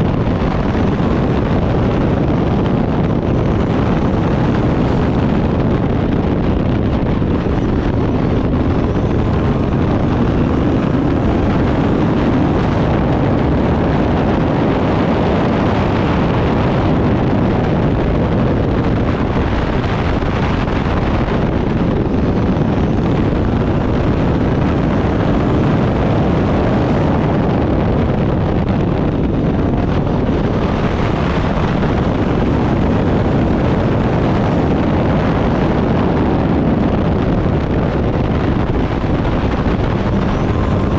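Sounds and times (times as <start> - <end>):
race car engine running hard: 0.0 - 40.9
wind rushing over microphone: 0.0 - 40.9.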